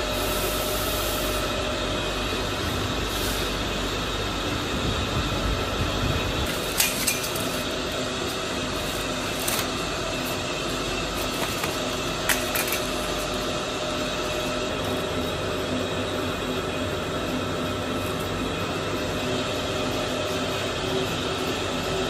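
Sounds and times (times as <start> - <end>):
factory machinery humming: 0.0 - 22.0.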